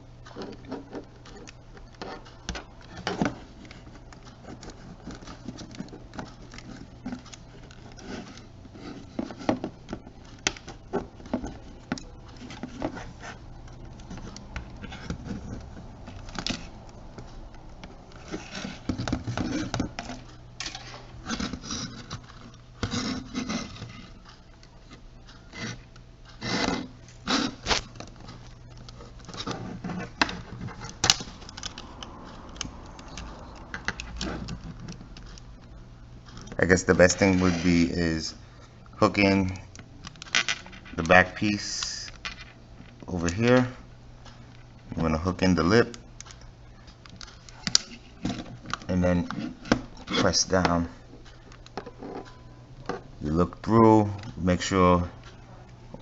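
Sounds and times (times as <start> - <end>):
faint steady hum: 0.0 - 56.0
plastic parts clicking and scraping: 0.2 - 38.3, 39.1 - 53.1.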